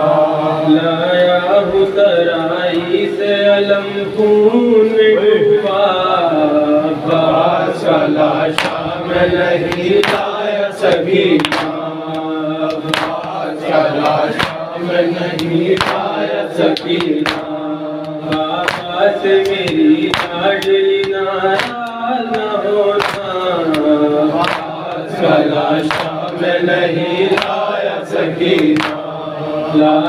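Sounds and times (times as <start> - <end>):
man reciting: 0.0 - 30.0
men chanting in unison: 0.0 - 30.0.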